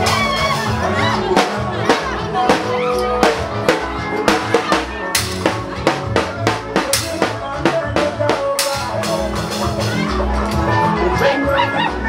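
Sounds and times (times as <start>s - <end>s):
party music with drum beat: 0.0s - 12.0s.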